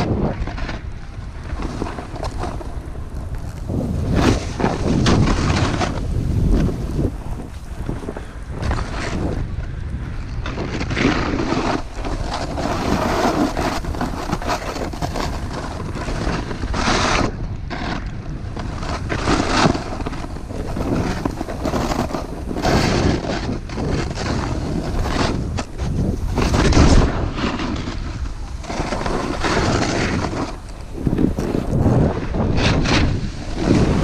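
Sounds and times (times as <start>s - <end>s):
snowboard scraping through snow: 0.0s - 34.0s
wind on microphone: 0.0s - 34.0s.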